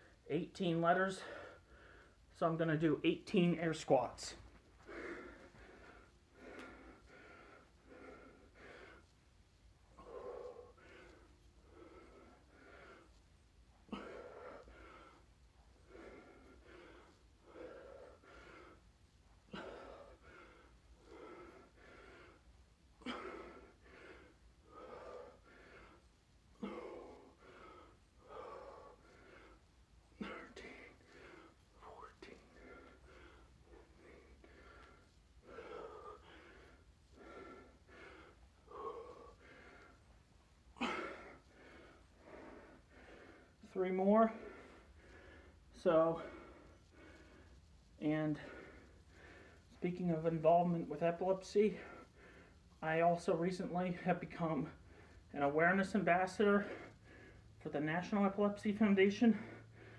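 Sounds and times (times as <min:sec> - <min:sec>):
man breathing heavily: 0:00.0 - 0:59.9.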